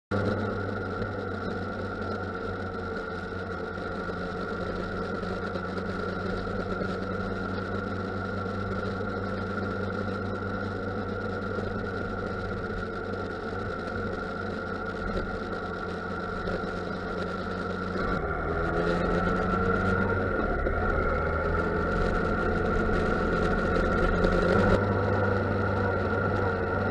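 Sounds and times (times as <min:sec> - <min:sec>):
motorcycle engine idling: 0:00.1 - 0:26.9.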